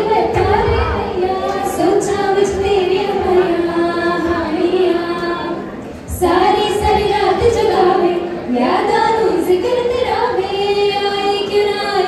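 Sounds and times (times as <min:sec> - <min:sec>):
women singing into microphones: 0:00.0 - 0:12.0.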